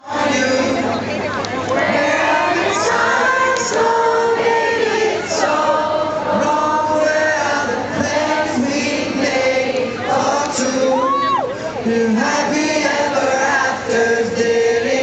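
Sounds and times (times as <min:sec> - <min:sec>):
crowd singing along: 0:00.0 - 0:15.0.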